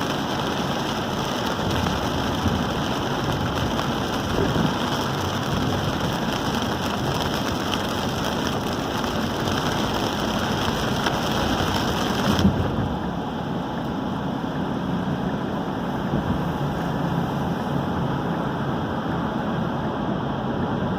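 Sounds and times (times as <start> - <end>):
heavy rain on car: 0.0 - 20.9
tyres on wet road: 0.0 - 20.9.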